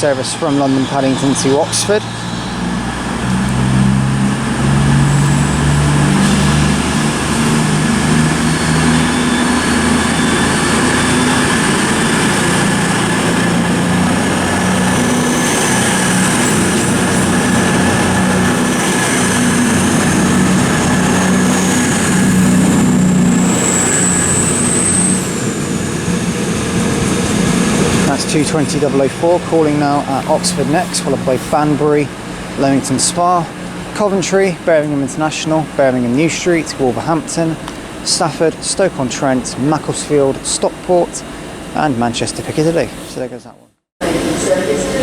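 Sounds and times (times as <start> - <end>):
thin high whine: 0.0 - 43.3
diesel train engines droning: 0.0 - 45.0.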